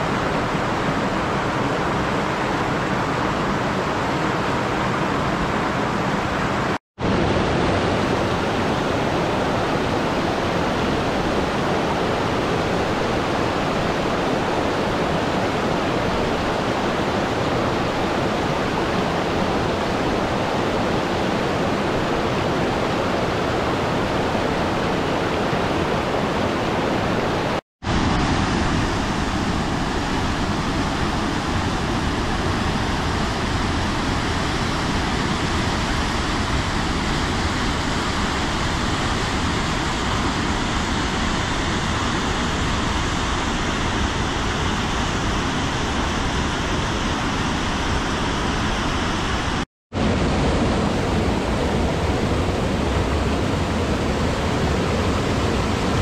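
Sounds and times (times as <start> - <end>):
rushing stream water: 0.0 - 56.0.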